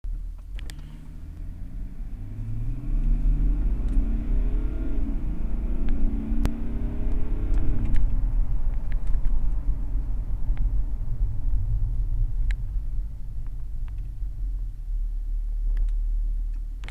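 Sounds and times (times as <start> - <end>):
diesel engine revving: 0.5 - 16.9.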